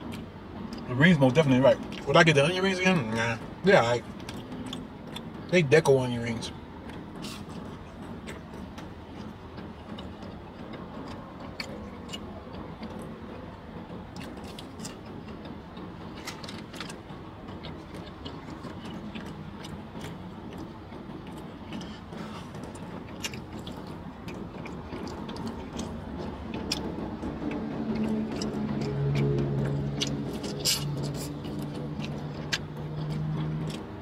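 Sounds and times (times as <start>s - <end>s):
low background hum: 0.0s - 34.0s
person chewing and smacking: 4.2s - 5.3s, 6.8s - 34.0s.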